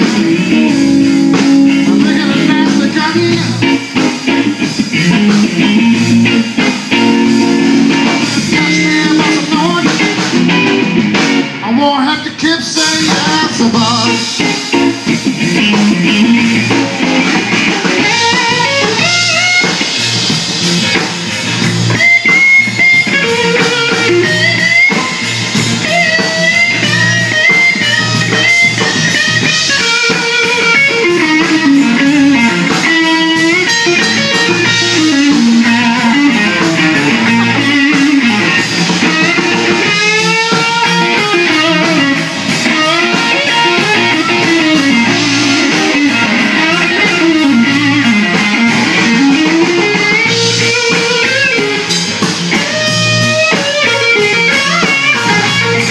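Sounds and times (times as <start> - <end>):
electric guitar with bent notes: 0.0 - 55.9
live blues band playing: 0.0 - 55.9.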